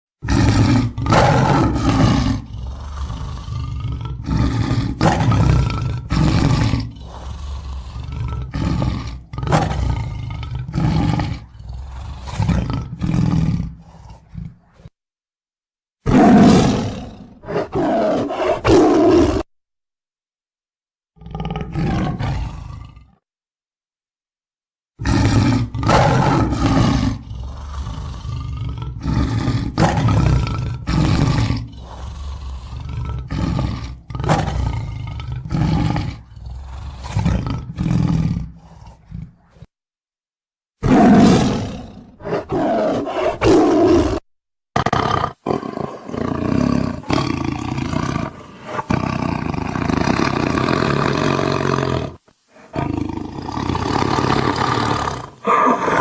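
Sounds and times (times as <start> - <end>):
tiger growling and roaring: 0.2 - 15.0, 16.0 - 19.5, 21.2 - 23.2, 25.0 - 39.7, 40.8 - 44.2, 44.8 - 56.0.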